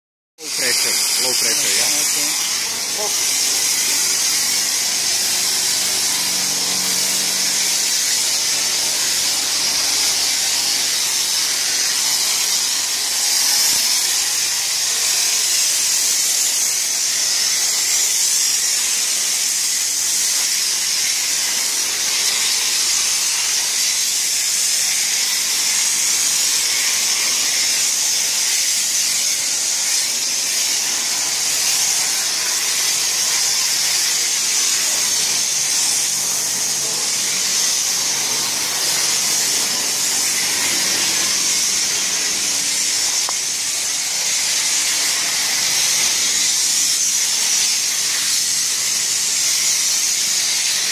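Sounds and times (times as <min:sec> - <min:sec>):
foam lance spraying hiss: 0:00.4 - 0:50.9.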